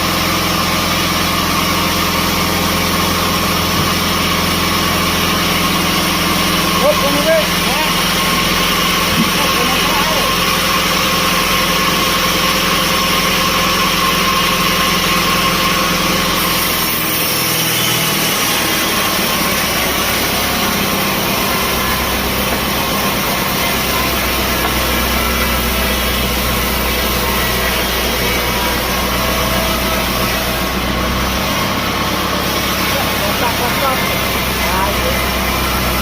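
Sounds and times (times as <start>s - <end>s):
sawmill machinery engine running: 0.0s - 36.0s.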